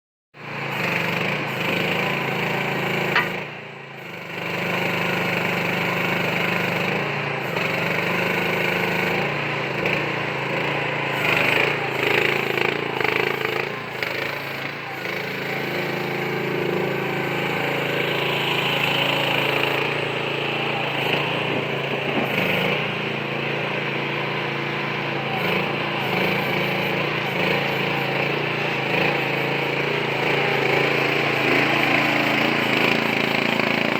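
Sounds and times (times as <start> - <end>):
small diesel engine running: 0.4 - 33.9.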